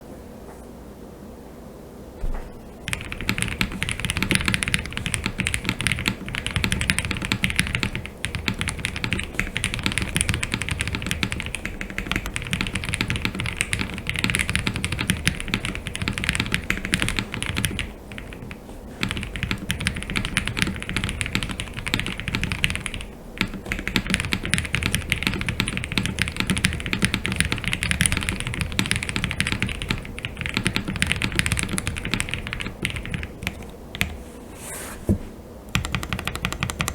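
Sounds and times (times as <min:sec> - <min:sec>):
fast mechanical keyboard typing: 0:02.8 - 0:34.2, 0:35.7 - 0:36.9.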